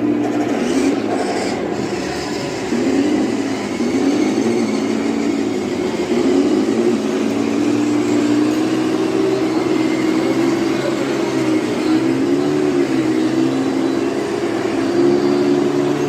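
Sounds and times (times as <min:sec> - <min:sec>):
model truck motor whine: 0:00.0 - 0:16.0.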